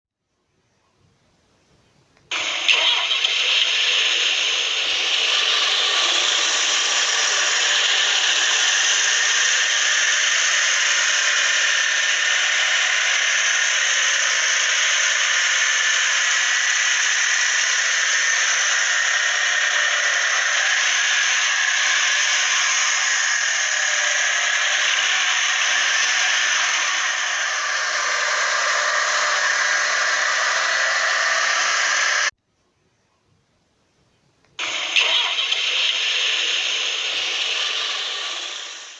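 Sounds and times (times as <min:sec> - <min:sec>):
toy engine hissing whir: 0:02.3 - 0:32.3, 0:34.6 - 0:38.9.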